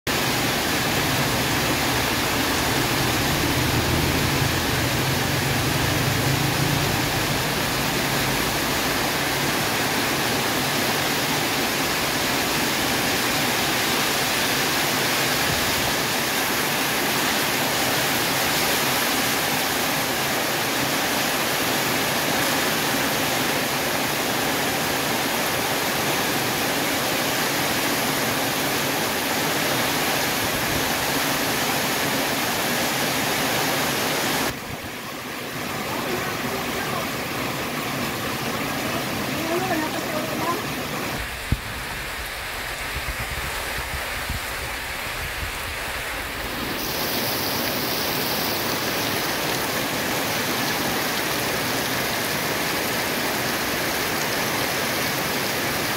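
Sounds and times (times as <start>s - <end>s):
heavy rain pouring: 0.1s - 55.9s.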